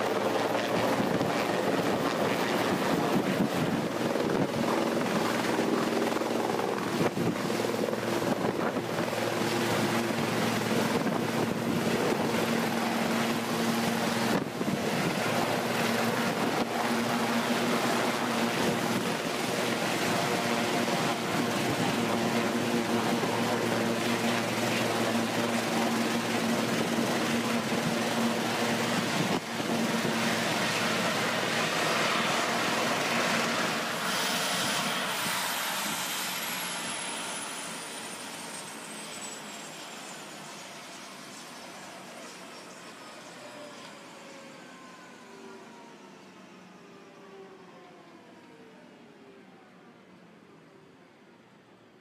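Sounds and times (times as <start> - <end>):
helicopter rotor and engines: 0.0 - 52.0
turbine whine winding down: 6.0 - 49.8.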